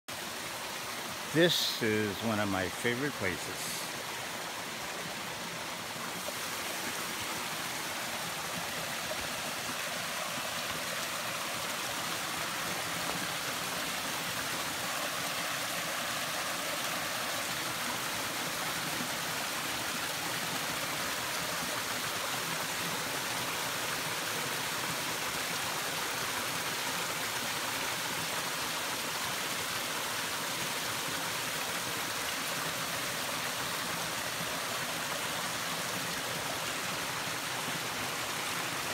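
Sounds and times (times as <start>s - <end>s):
stream splashing over rocks: 0.1s - 38.9s.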